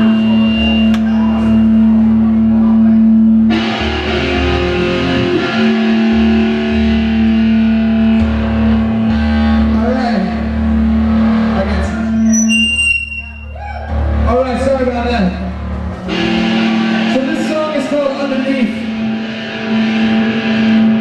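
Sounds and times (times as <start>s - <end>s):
live rock band playing: 0.0s - 12.5s, 13.4s - 21.0s.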